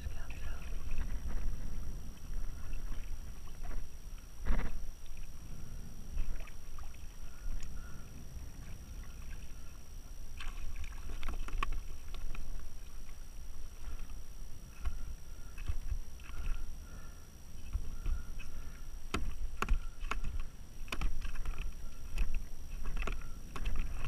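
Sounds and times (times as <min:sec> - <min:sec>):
water splashing against kayak hull: 0:00.0 - 0:24.0.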